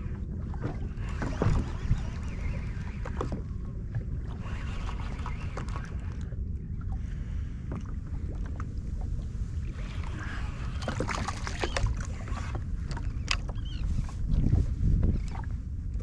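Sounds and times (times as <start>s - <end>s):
steady low rumble: 0.0s - 16.0s
water sloshing against a hull: 0.0s - 16.0s.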